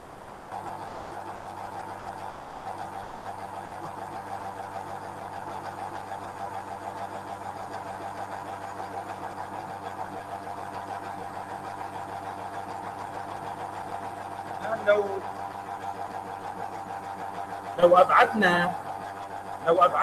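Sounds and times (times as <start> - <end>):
spinning rotor whirring: 0.0 - 20.0.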